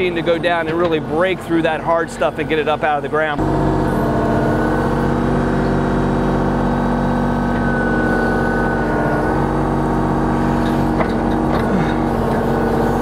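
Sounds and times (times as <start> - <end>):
excavator diesel engine: 0.0 - 13.0
steady high whine: 0.0 - 13.0.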